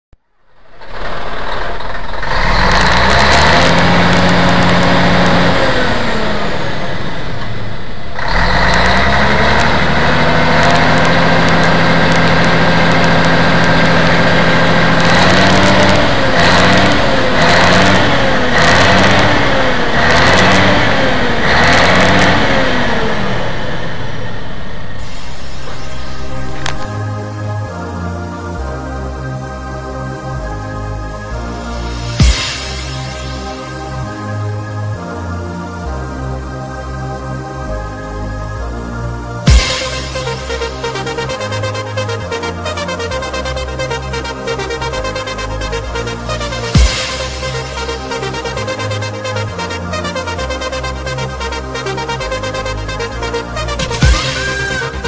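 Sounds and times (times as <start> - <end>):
bus engine revving: 0.4 - 55.0.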